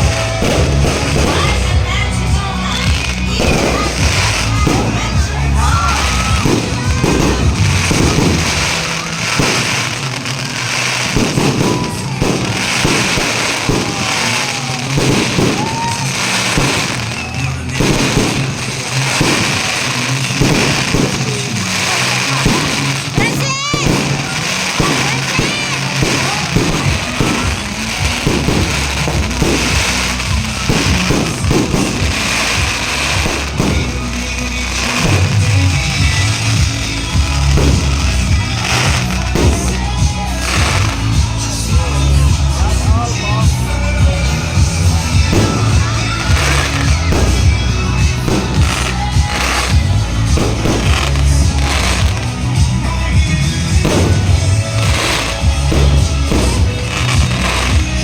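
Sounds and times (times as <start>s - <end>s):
fireworks bangs and crackles: 0.0s - 58.0s
music playing: 0.0s - 58.0s.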